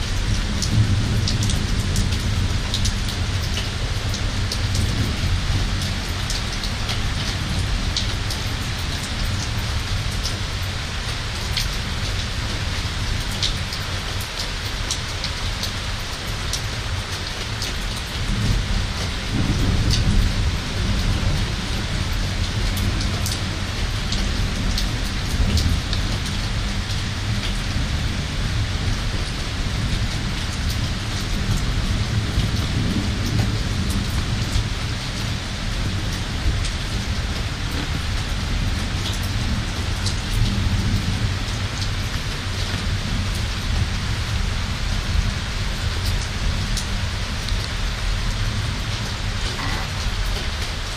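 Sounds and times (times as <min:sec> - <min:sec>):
low rumble of thunder: 0:00.0 - 0:08.9, 0:18.2 - 0:50.9
raindrops ticking on surfaces: 0:00.0 - 0:50.9
steady rain: 0:00.0 - 0:50.9.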